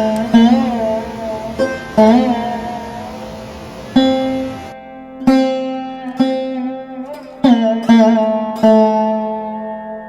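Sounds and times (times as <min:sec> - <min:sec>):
plucked string instrument notes: 0:00.0 - 0:10.0.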